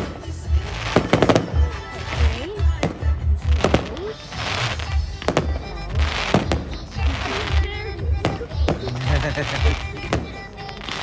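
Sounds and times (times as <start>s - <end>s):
firework bangs: 0.0s - 11.0s
firework crackle: 0.0s - 11.0s
loud music with bass beat: 0.0s - 11.0s.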